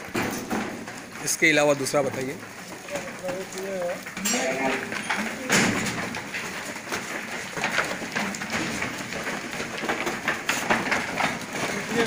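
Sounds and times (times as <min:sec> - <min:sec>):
hooves clattering on wooden floor: 0:00.0 - 0:12.0.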